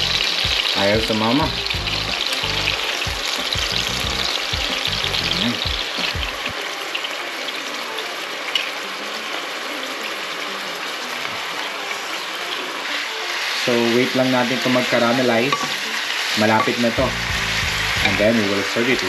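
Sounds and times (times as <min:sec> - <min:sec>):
sausages sizzling in oil: 0:00.0 - 0:19.0.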